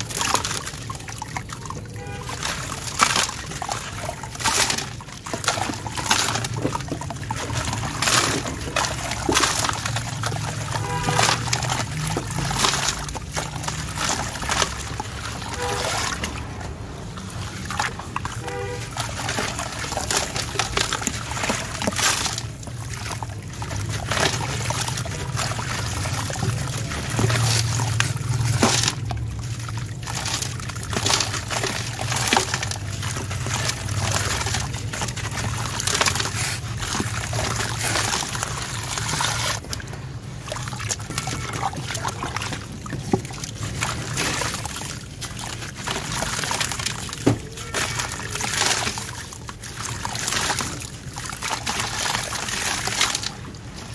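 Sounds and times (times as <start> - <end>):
hands sloshing in water: 0.0 - 53.9.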